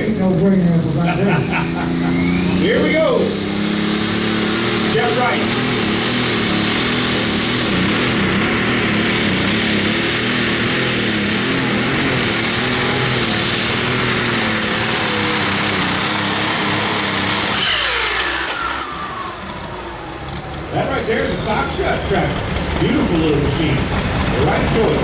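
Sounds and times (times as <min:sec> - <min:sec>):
tractor engine running flat out: 0:00.0 - 0:25.0.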